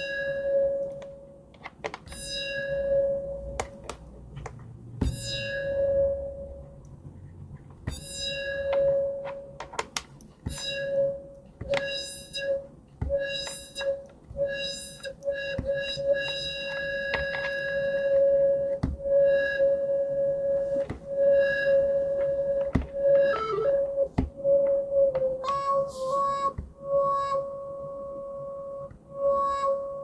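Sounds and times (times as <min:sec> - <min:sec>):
synthesized bell-like tone: 0:00.0 - 0:01.4, 0:02.1 - 0:03.9, 0:05.0 - 0:06.9, 0:07.9 - 0:09.6, 0:10.5 - 0:30.0.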